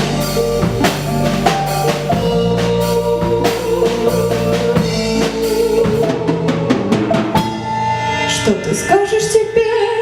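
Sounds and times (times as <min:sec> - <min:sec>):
drum kit beating: 0:00.0 - 0:08.8
live band playing: 0:00.0 - 0:10.0.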